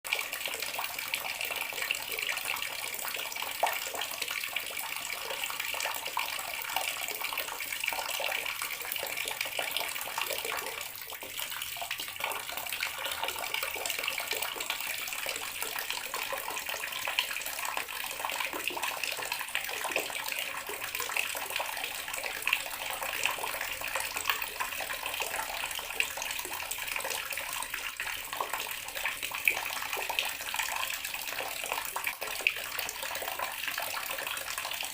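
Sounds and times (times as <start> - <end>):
tap water splashing into basin: 0.1 - 34.9.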